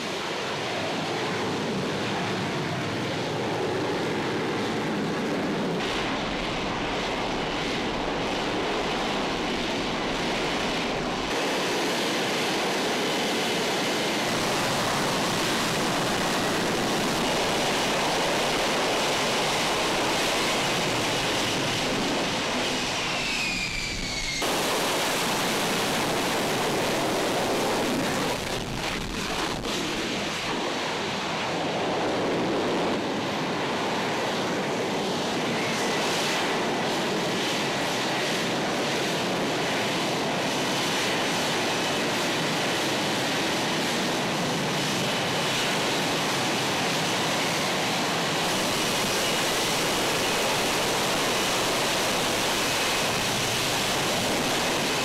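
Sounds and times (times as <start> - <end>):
loud rushing jet engine noise: 0.0 - 55.0.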